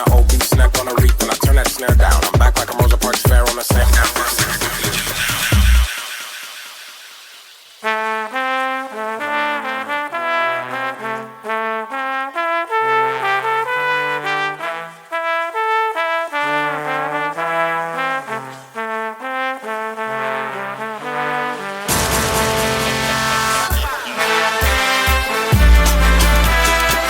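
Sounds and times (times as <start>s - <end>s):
brass section playing chords: 0.0s - 6.0s, 7.8s - 27.0s.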